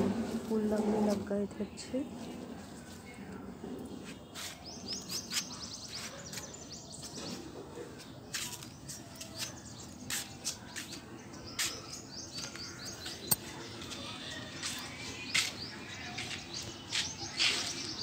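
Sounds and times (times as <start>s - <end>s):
small birds chirping: 0.5s - 18.0s.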